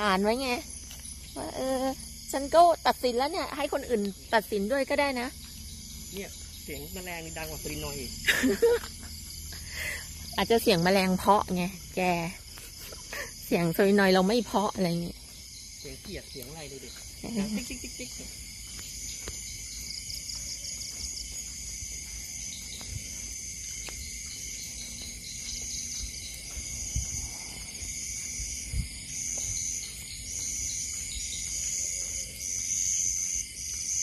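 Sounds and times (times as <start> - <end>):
crickets trilling: 0.0 - 34.0
pulsing cricket trill: 0.0 - 34.0.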